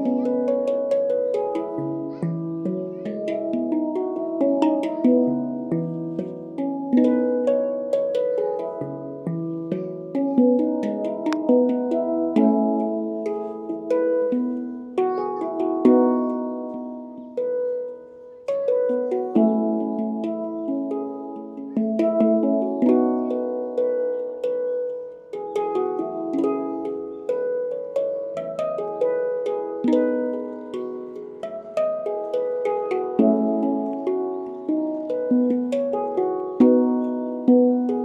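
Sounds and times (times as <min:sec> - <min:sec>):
handpan melody: 0:00.0 - 0:38.0.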